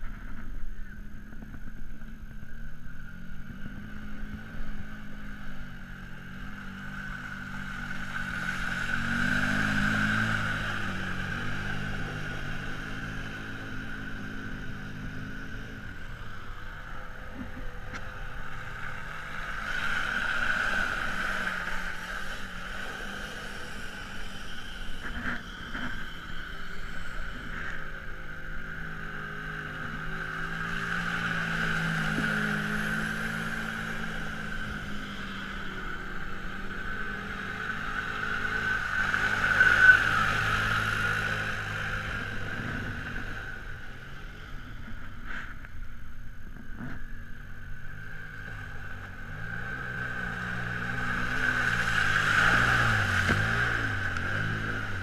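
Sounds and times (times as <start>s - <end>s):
atv engine whining: 0.0s - 55.0s.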